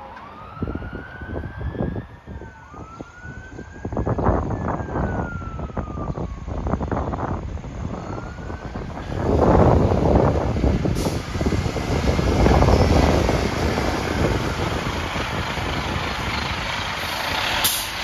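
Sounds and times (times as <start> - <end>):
fire engine siren wailing: 0.0 - 18.0
wind gusts on microphone: 0.3 - 18.0.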